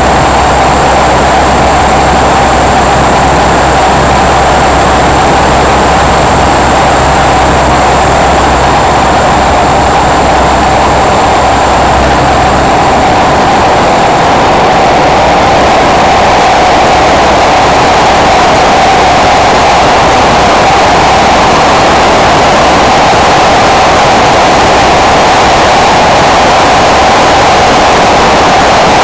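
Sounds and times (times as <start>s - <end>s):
high motor whine: 0.0s - 29.0s
model helicopter rotor drone: 0.0s - 29.0s.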